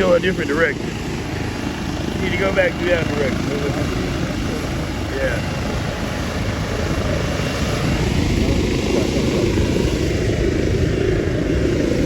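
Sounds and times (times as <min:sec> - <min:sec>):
helicopter rotor and turbine rumble: 0:00.0 - 0:12.0.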